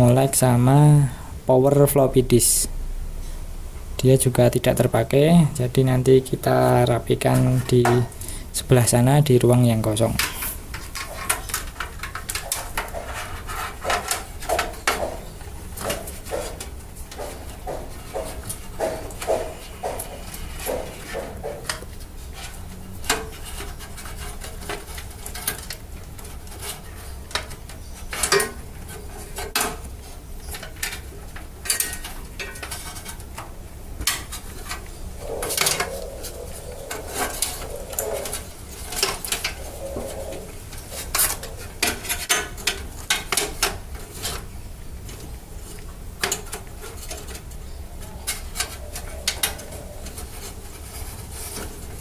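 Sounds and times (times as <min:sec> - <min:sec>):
low steady hum: 0:00.0 - 0:52.0
cables and plastic connectors handled: 0:09.9 - 0:52.0.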